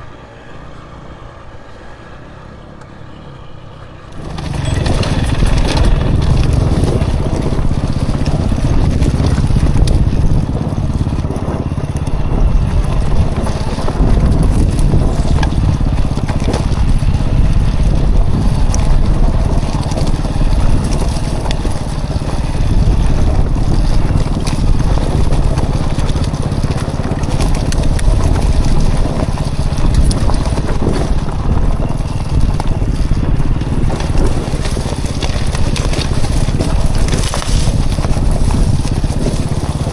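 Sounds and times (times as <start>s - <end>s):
dirt bike engine running: 3.9s - 39.9s.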